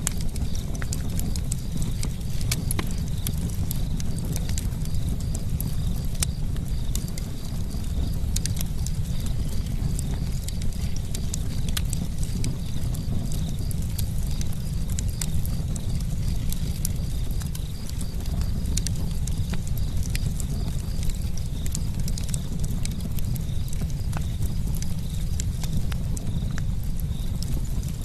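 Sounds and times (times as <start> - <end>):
campfire crackles and pops: 0.0 - 28.0
low fire rumble: 0.0 - 28.0.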